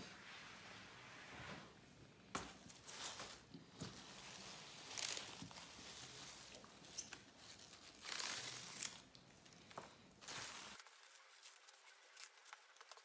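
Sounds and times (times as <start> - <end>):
green onions rustling: 2.4 - 13.0.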